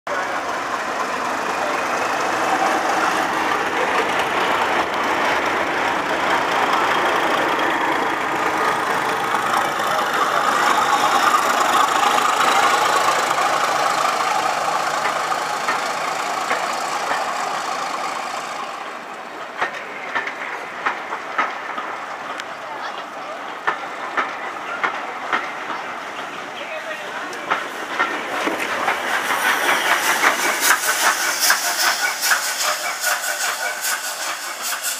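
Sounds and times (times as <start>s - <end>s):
diesel locomotive engine under load: 0.1s - 34.9s
wheels clicking over rail joints: 0.1s - 34.9s.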